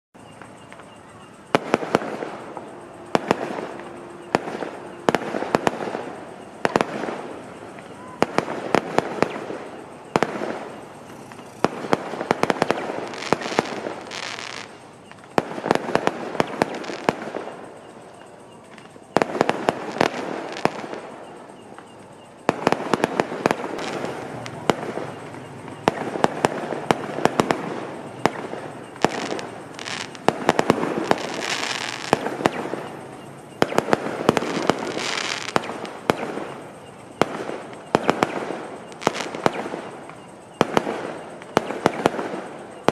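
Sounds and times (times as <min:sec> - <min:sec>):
fireworks bangs and crackling: 0:00.2 - 0:42.9.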